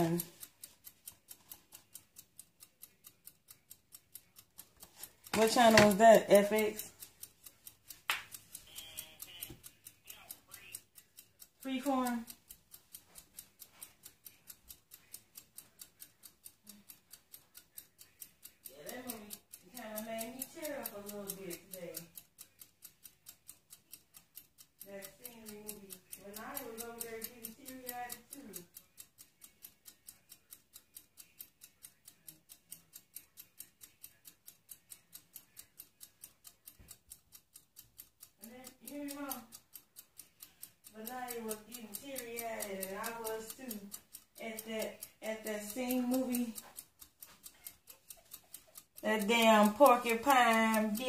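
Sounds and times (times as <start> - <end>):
rapid high-pitched ticking: 0.0 - 51.0.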